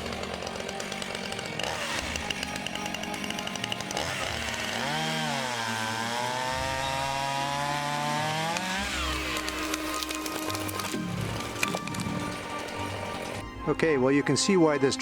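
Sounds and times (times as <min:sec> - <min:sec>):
chainsaw cutting into tree: 0:00.0 - 0:13.4.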